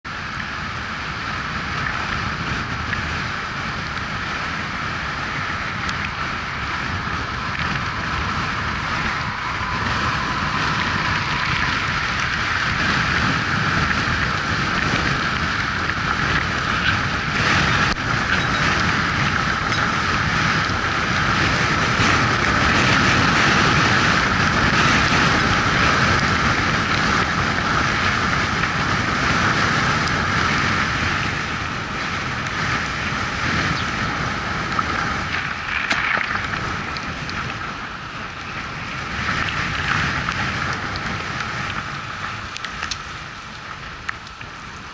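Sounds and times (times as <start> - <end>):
tyre noise on wet road: 0.0 - 44.9
wind rushing over microphone: 0.0 - 44.9.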